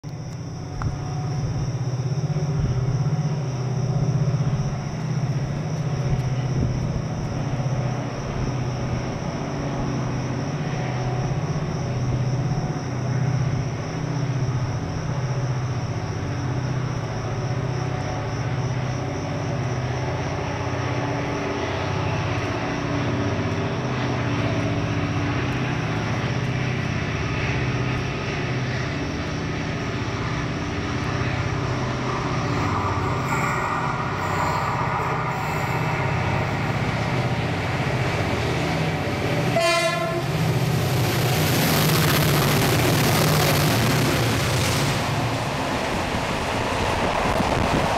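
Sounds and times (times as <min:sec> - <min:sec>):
engine droning: 0:00.0 - 0:47.9.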